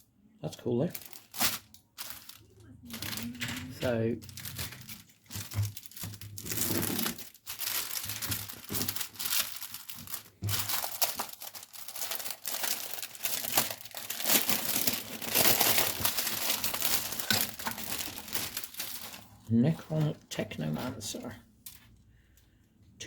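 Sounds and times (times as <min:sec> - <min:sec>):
packaging crinkling: 0:00.8 - 0:21.9.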